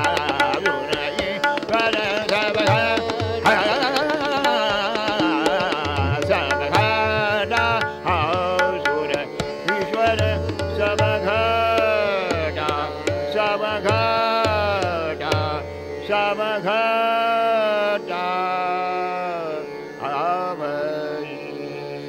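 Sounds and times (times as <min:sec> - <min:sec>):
man singing devotional song: 0:00.0 - 0:22.0
tabla: 0:00.0 - 0:22.0
tanpura drone: 0:00.0 - 0:22.0.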